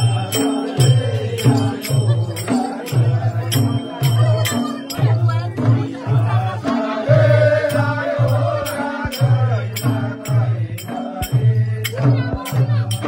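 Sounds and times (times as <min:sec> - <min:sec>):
pitched drum beat: 0:00.0 - 0:13.0.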